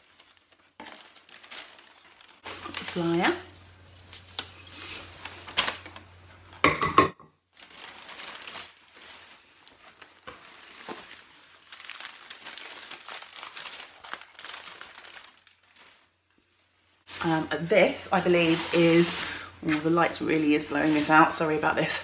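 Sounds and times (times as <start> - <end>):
packaging rustling and crinkling: 0.0 - 6.7, 7.5 - 22.0.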